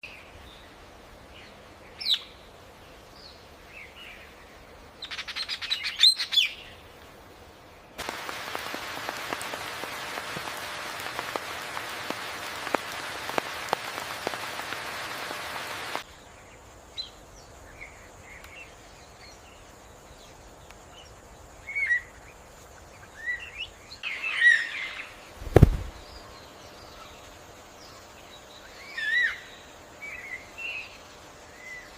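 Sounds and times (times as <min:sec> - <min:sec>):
steady hiss: 0:00.0 - 0:31.9.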